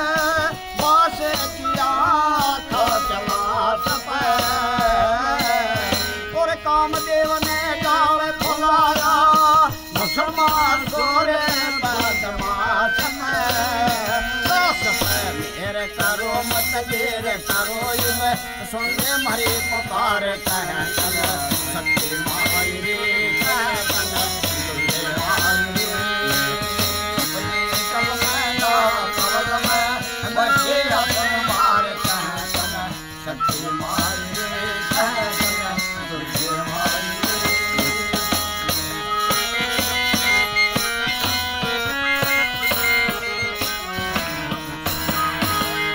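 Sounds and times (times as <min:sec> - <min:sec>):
bamboo flute melody: 0:00.0 - 0:45.9
harmonium chords: 0:00.0 - 0:45.9.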